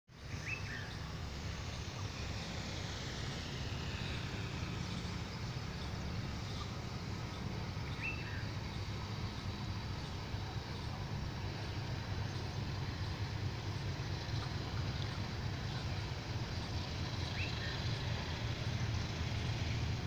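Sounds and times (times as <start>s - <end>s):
diesel locomotive engine drone: 0.1s - 20.0s.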